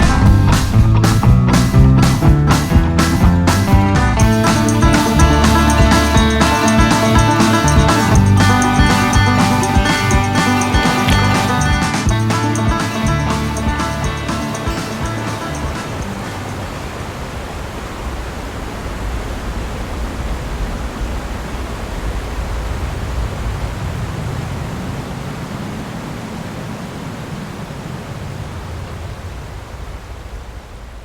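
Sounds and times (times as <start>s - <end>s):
steady rushing outdoor ambience: 0.0s - 31.0s.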